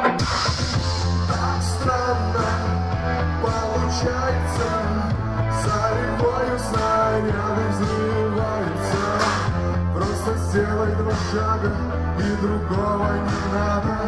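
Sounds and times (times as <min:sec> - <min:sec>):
pop-rock band music: 0:00.0 - 0:14.0.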